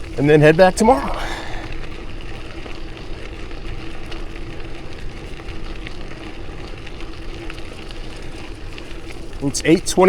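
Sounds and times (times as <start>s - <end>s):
bicycle tyres rolling on trail: 0.0s - 10.0s.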